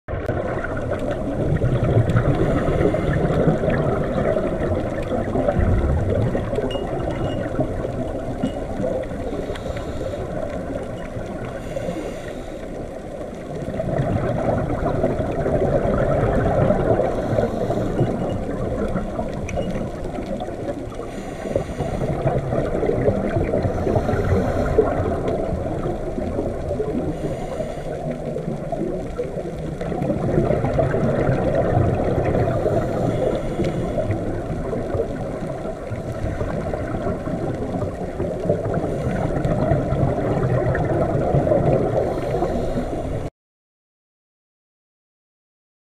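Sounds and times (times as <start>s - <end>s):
water gurgling: 0.1s - 43.3s.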